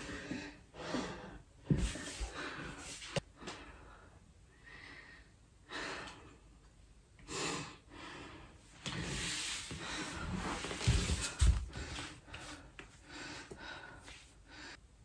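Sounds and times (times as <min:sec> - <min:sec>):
man breathing hard: 0:00.0 - 0:06.5, 0:07.2 - 0:15.0.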